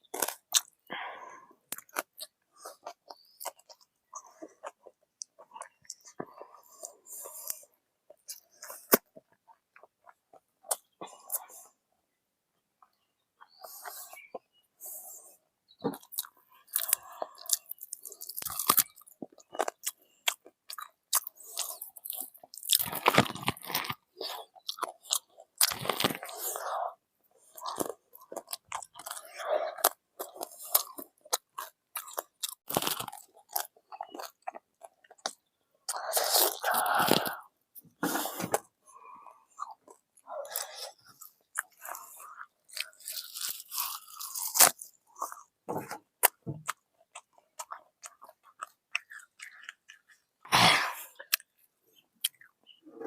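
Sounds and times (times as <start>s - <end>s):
person chewing crunchy food: 0.0s - 1.0s, 1.7s - 11.7s, 12.8s - 53.0s.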